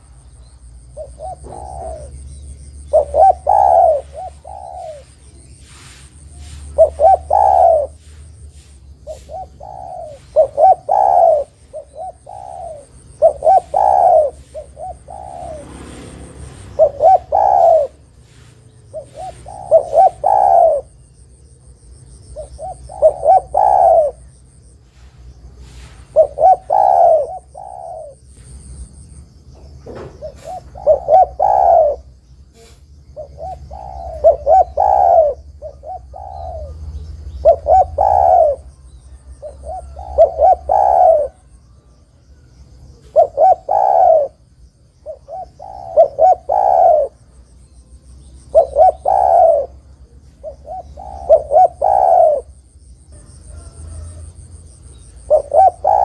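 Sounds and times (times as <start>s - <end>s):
dove cooing: 0.8s - 28.8s, 29.6s - 56.0s.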